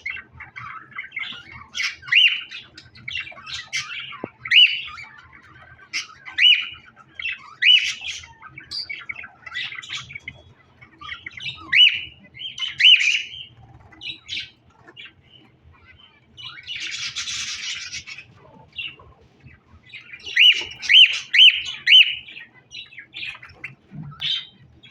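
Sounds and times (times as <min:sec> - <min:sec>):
birds squawking and chirping: 0:00.0 - 0:24.9
harsh rasping bird noise: 0:00.0 - 0:24.9.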